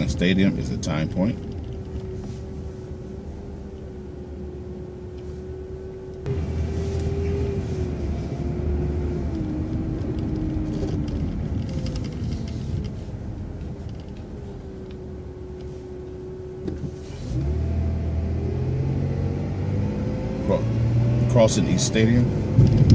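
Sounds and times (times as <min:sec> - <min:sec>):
bus engine running: 0:00.0 - 0:22.9.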